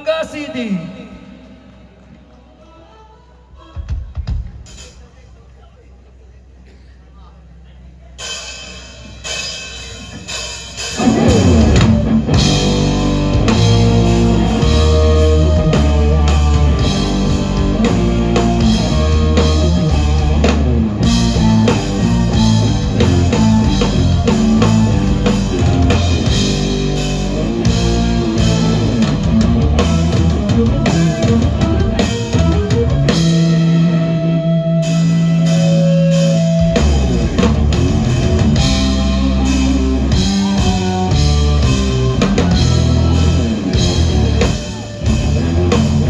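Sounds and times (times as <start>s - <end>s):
live rock band playing: 3.6s - 5.0s, 8.2s - 46.0s.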